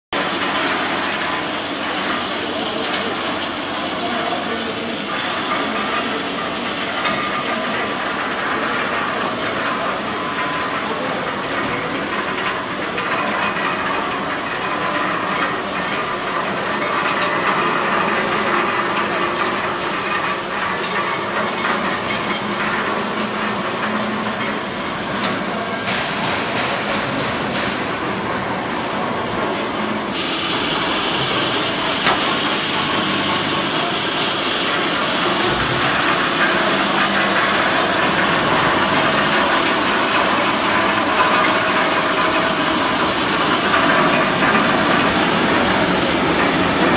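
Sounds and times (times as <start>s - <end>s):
machine whirring and rattling: 0.2s - 46.9s.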